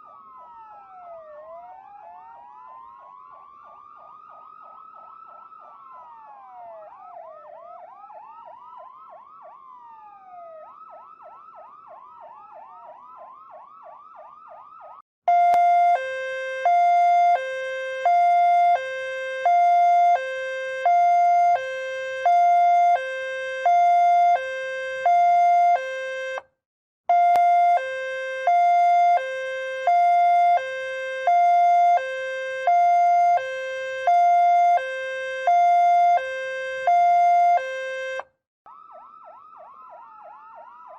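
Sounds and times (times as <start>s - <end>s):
ambulance siren wail and yelp: 0.0s - 26.5s, 27.1s - 40.9s
two-tone hi-lo siren: 0.0s - 26.5s, 27.1s - 40.9s.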